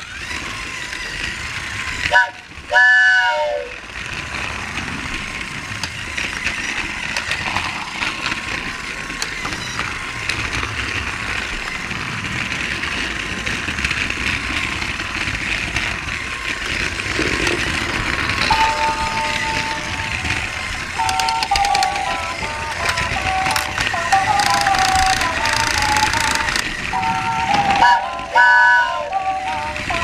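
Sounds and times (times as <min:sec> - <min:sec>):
toy train motor whirring: 0:00.0 - 0:30.0
wheels rumbling: 0:00.0 - 0:30.0.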